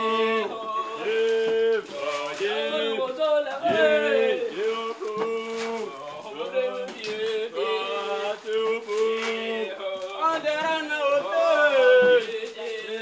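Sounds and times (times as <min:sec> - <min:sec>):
man singing slow chant: 0:00.0 - 0:13.0.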